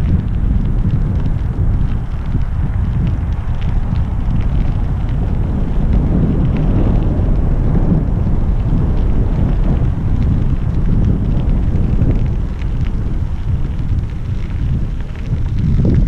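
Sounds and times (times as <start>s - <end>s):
bicycle tyres on gravel: 0.0s - 16.0s
wind buffeting microphone: 0.0s - 16.0s.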